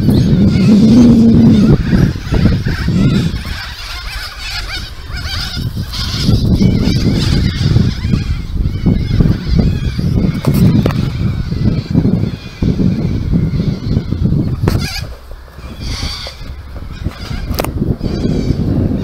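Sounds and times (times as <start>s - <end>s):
parrots screeching and chattering: 0.0s - 19.0s
wind rumbling on microphone: 0.0s - 19.0s.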